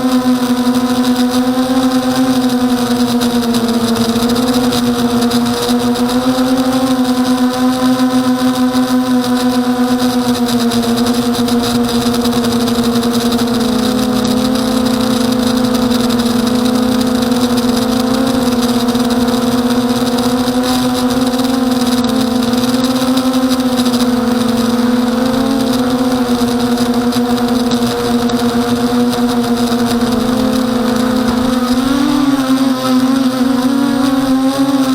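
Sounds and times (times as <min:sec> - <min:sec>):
drone propellers buzzing: 0:00.0 - 0:34.9.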